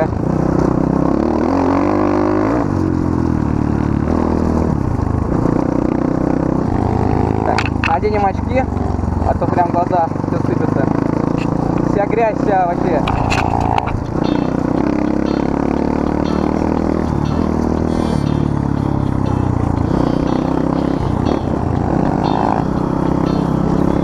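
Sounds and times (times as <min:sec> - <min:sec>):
other engines running: 0:00.0 - 0:24.0
pit bike engine revving: 0:00.0 - 0:24.0.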